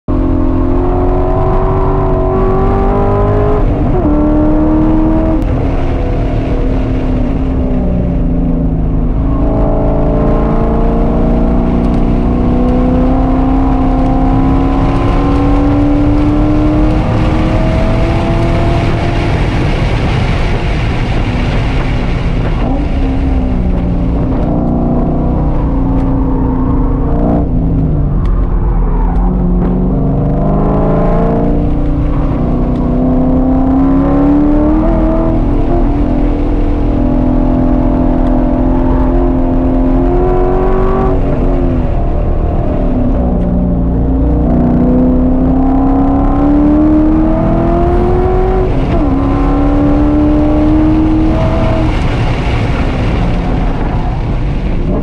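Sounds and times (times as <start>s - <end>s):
car engine revving: 0.1s - 55.0s
wind noise: 0.1s - 55.0s.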